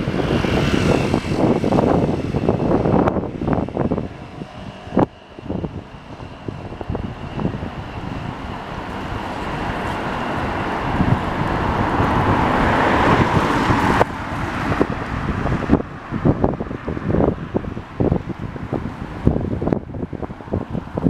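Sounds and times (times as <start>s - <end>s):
city street traffic rushing: 0.0s - 21.0s.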